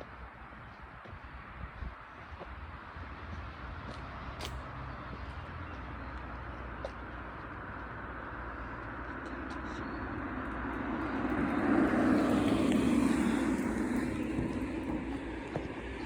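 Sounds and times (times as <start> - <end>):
vehicle passing: 2.7 - 16.0.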